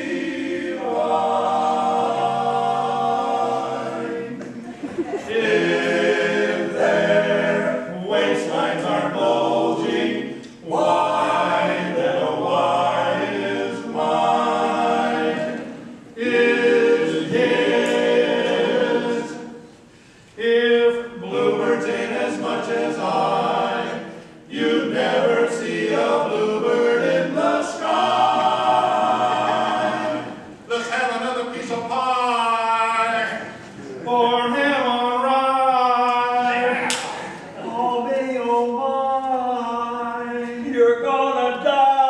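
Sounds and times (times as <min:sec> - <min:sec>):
men singing a cappella harmony: 0:00.0 - 0:04.4, 0:05.2 - 0:19.6, 0:20.4 - 0:30.9, 0:31.6 - 0:42.0.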